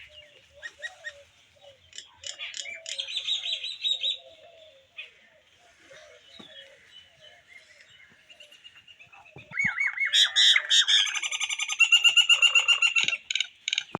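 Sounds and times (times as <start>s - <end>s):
songbird chirping and trilling: 0.0s - 13.9s.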